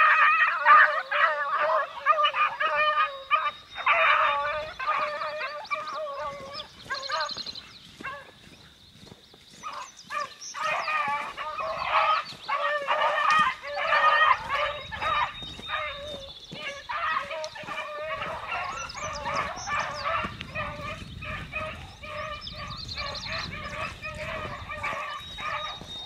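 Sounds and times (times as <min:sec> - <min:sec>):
beagles baying: 0:00.0 - 0:08.6, 0:09.5 - 0:26.0.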